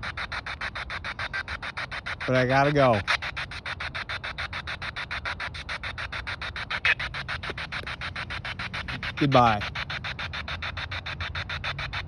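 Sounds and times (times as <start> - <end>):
radio static bursts: 0.0 - 12.0.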